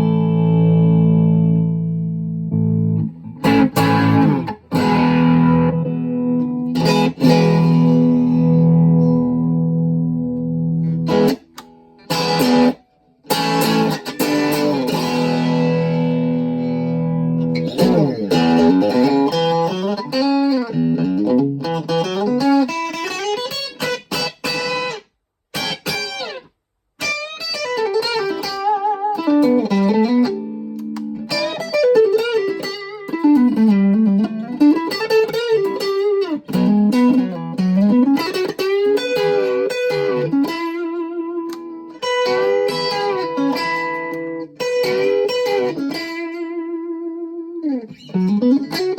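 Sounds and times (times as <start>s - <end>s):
electric guitar through small amp: 0.0s - 48.9s.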